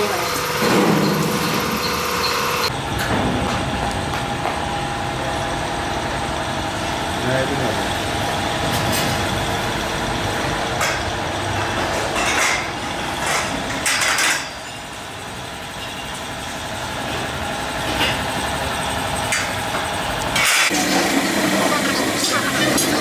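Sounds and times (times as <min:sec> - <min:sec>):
low mechanical rumble: 0:00.0 - 0:23.0.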